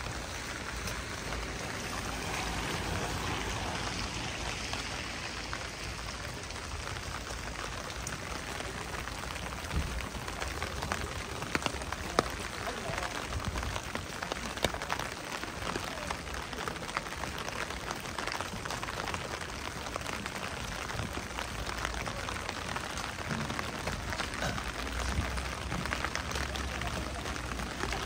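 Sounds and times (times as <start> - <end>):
steady rain patter: 0.0 - 28.0.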